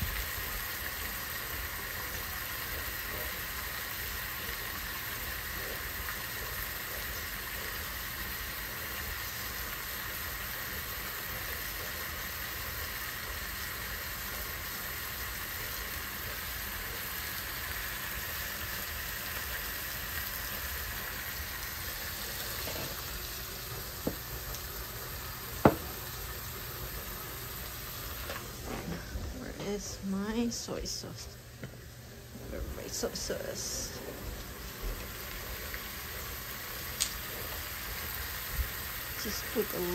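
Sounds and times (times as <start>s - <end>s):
fish sizzling in a pan: 0.0s - 39.9s.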